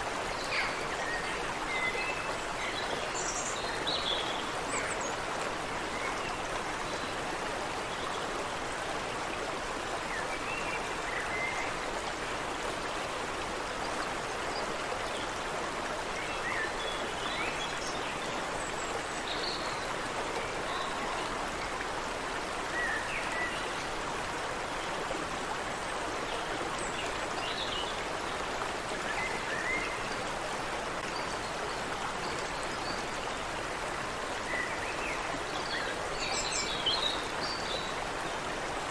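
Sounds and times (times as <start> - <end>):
creek water running: 0.0 - 38.9.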